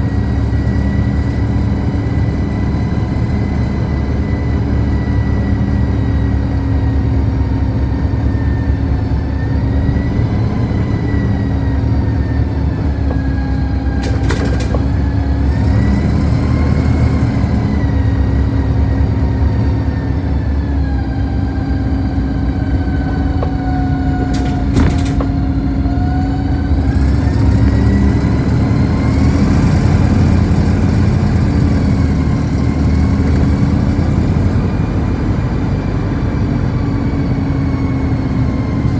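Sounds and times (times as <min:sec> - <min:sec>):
bus rumble and road noise: 0:00.0 - 0:38.9.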